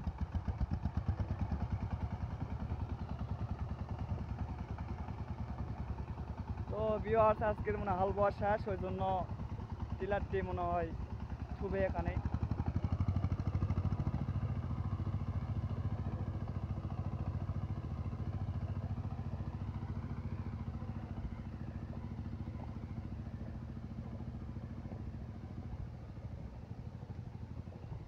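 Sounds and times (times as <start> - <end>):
diesel engine chugging: 0.0 - 28.0
wheels churning through mud and water: 0.0 - 28.0.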